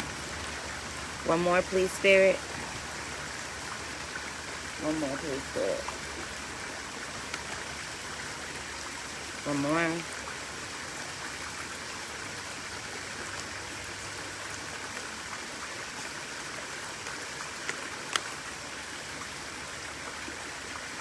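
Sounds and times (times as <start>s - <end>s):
stream running: 0.0s - 21.0s.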